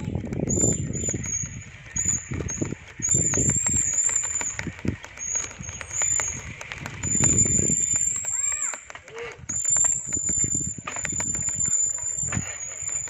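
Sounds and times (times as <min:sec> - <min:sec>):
footsteps on pavement: 0:00.0 - 0:13.0.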